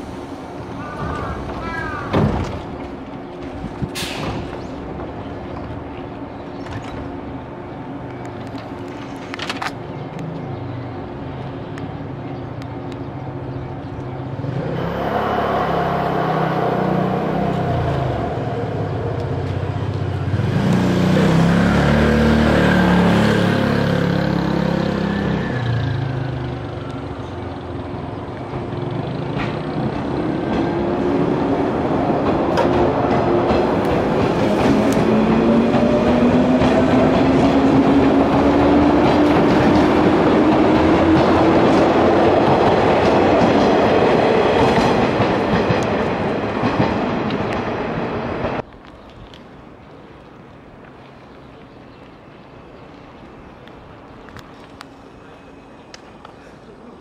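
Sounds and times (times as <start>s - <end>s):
electric train hum: 0.0s - 51.2s.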